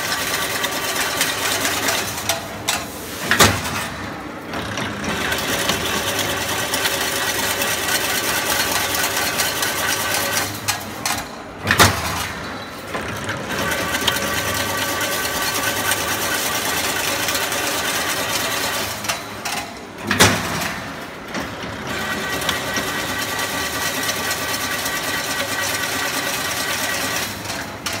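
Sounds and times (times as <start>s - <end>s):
machine whirring with high hum: 0.0s - 28.0s.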